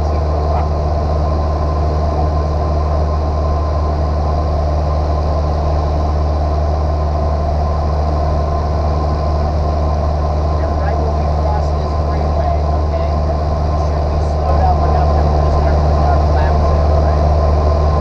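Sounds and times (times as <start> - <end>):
light airplane engine drone: 0.0 - 18.0.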